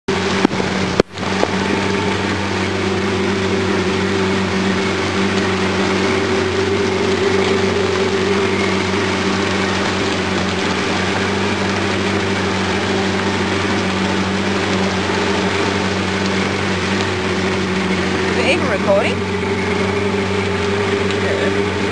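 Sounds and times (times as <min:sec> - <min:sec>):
boat engine humming: 0:00.0 - 0:21.9
wind and water rushing: 0:00.1 - 0:21.9.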